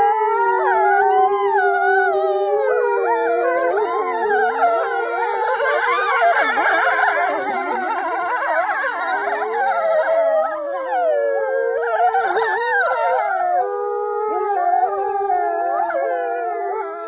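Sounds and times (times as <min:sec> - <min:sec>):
dogs howling: 0:00.0 - 0:17.0.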